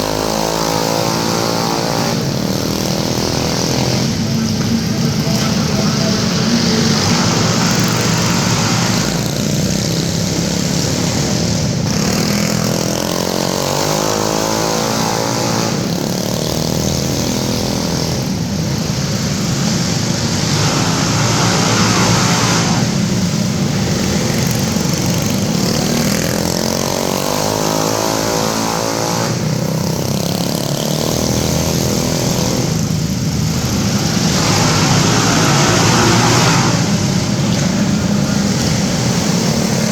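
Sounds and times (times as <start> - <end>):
minibike engines racing: 0.0 - 39.9.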